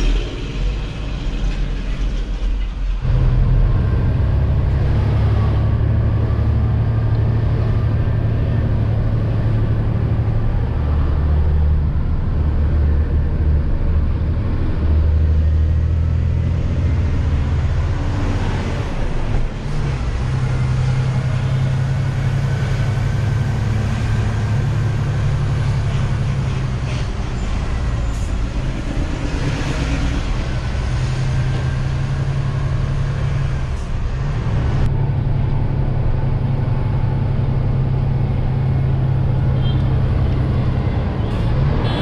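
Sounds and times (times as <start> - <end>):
diesel truck engine droning: 0.0 - 42.0
road noise: 0.0 - 42.0.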